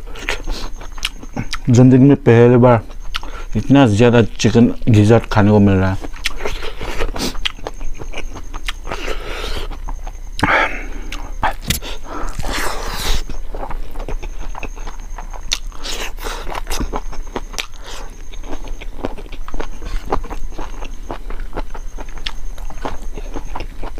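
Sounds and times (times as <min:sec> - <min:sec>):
man chewing wetly: 0:00.0 - 0:01.8, 0:02.8 - 0:23.9.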